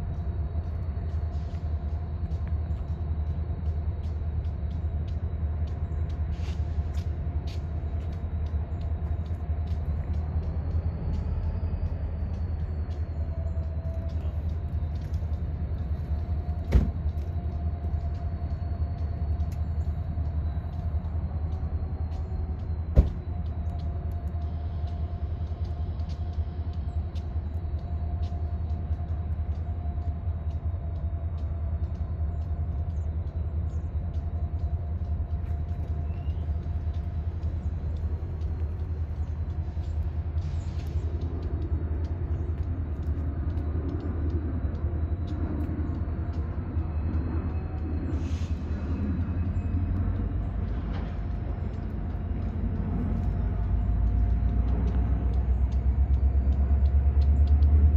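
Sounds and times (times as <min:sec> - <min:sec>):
diesel locomotives rumbling: 0:00.0 - 0:57.9.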